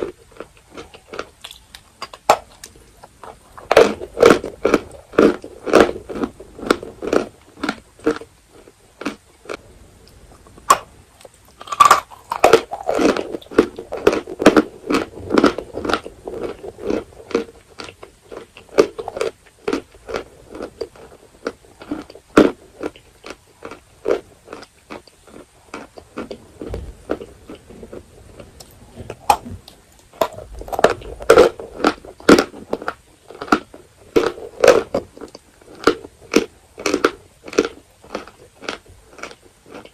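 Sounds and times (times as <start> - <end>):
chalk being chewed crunching: 0.0 - 9.6, 10.7 - 26.4, 27.1 - 39.9.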